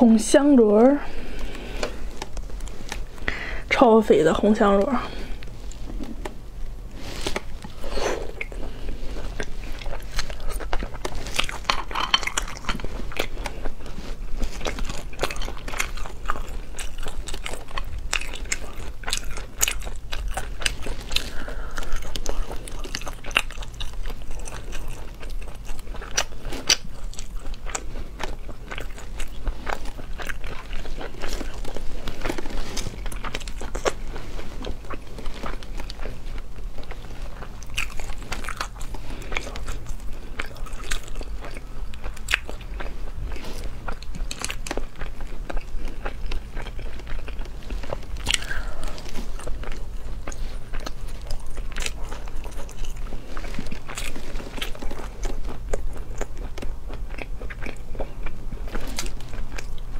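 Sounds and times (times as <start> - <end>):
close chewing and biting: 0.7 - 3.3, 4.7 - 59.9.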